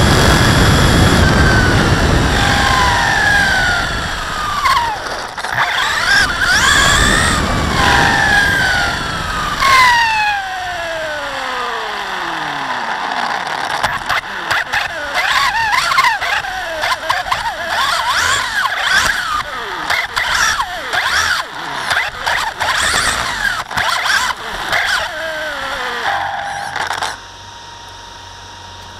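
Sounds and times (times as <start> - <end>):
electric motor whining: 0.0 - 28.9.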